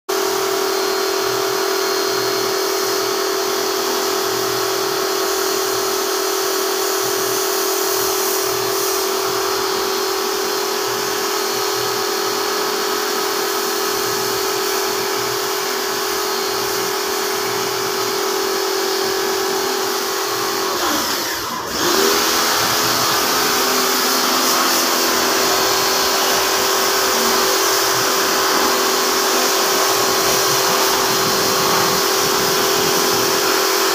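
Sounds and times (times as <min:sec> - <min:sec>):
pressure washer pump whine: 0:00.1 - 0:33.9.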